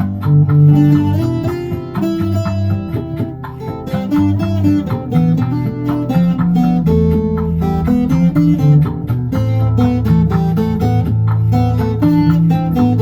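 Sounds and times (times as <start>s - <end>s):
guitar-like strings strummed: 0.0s - 13.0s
sustained low bass notes: 0.0s - 13.0s.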